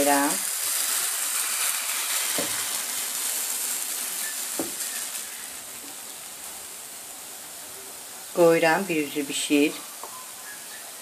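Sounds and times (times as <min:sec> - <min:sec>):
batter sizzling in frying pan: 0:00.0 - 0:11.0.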